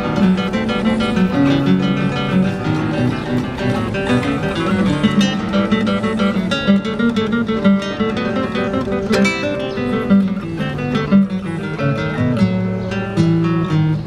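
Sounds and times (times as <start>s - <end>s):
classical guitar duet fingerpicked: 0.0s - 14.0s.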